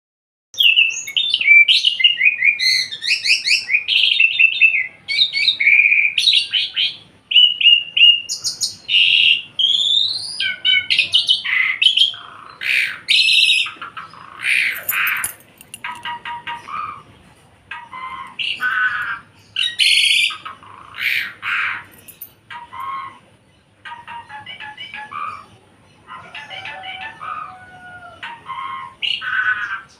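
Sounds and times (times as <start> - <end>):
starling singing: 0.6 - 29.9.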